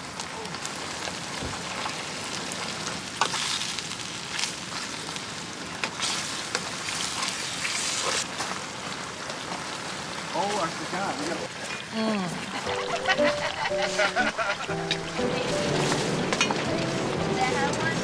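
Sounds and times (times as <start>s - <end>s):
onions sizzling in a pot: 0.0s - 18.0s.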